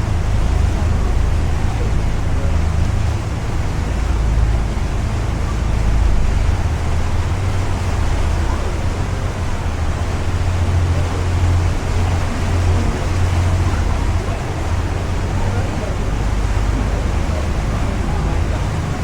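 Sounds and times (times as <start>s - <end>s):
ship engines droning: 0.0s - 19.0s
water washing: 0.0s - 19.0s.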